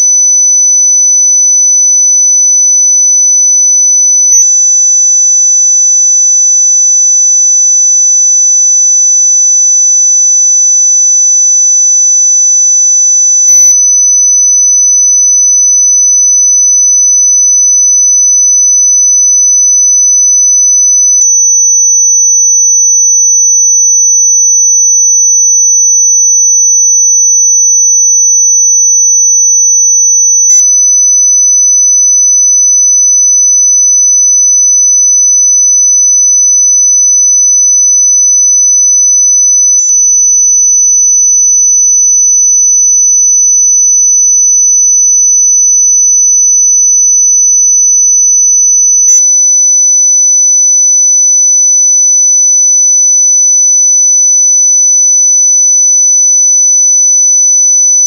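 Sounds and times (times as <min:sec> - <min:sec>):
high-pitched electronic sine tone: 0:00.0 - 0:58.0.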